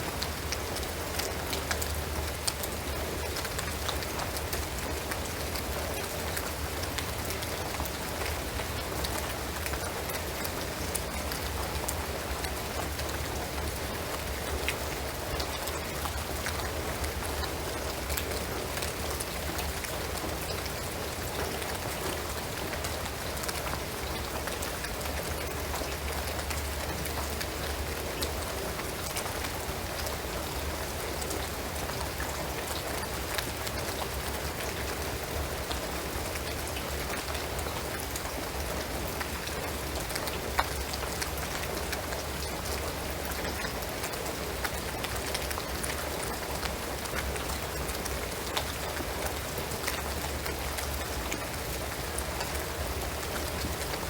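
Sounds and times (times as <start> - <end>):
rain on a shingled roof: 0.0 - 54.0.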